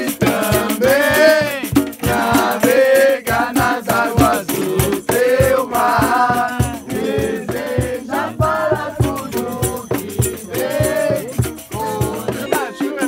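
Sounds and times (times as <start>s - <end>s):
hand percussion beating: 0.0s - 13.0s
people singing: 0.0s - 13.0s
rattling shaker: 0.0s - 13.0s.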